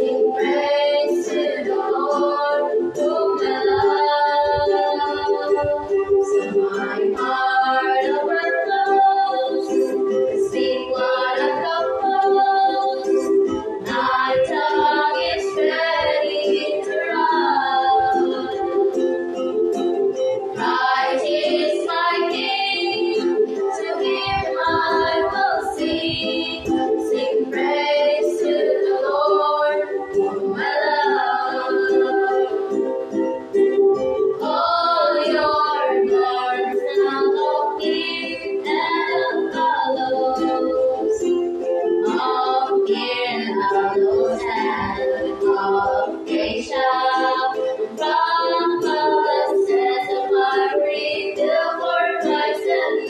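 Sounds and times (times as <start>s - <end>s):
girls singing a hymn: 0.0s - 53.0s
strummed ukulele: 0.0s - 53.0s.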